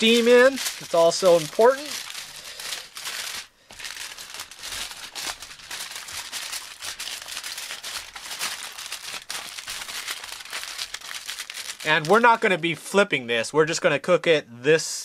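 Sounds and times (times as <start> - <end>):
aluminium foil crinkling: 0.0 - 12.9.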